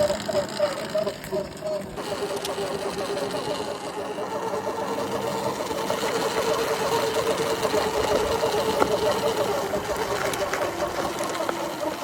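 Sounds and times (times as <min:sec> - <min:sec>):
electric bike drivetrain whine: 0:00.0 - 0:12.0.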